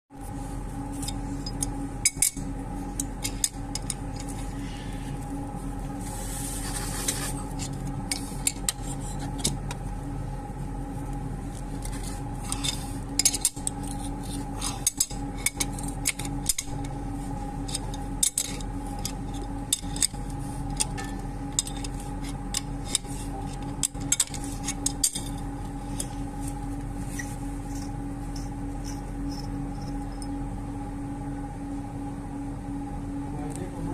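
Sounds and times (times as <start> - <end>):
steady hum: 0.1 - 33.9.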